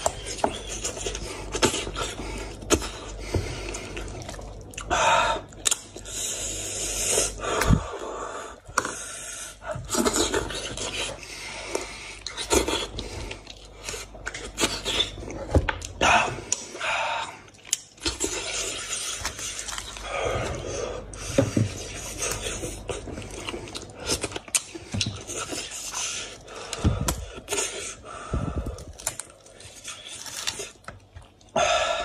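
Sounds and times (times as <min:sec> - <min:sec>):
wet chewing and mouth noises: 0:00.0 - 0:31.6.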